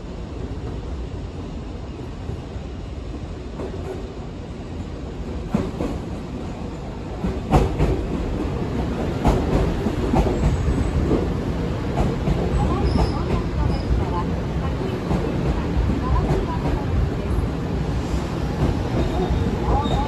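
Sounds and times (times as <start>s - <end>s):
train low rumble: 0.0s - 20.0s.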